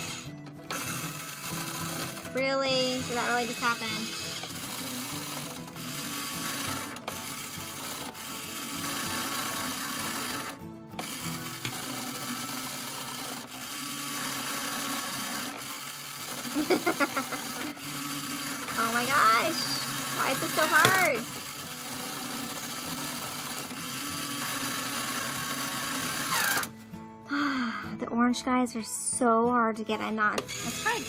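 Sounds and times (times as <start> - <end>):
claw machine motors whirring: 0.0 - 26.7, 30.4 - 31.0.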